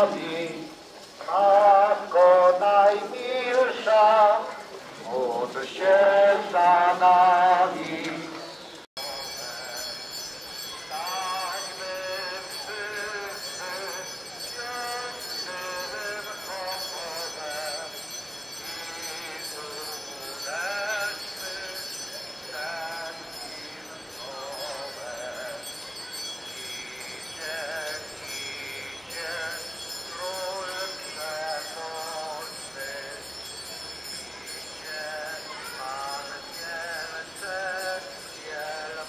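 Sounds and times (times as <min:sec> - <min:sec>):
people singing a hymn: 0:00.0 - 0:10.3, 0:10.9 - 0:25.9, 0:26.6 - 0:39.0
small bells jingling: 0:00.0 - 0:39.0.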